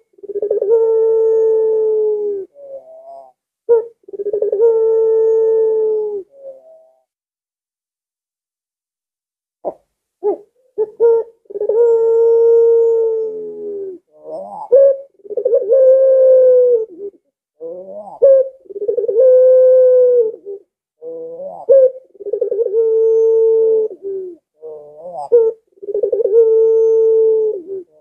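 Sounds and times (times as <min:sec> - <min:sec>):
dove cooing: 0:00.0 - 0:07.1, 0:09.6 - 0:28.0.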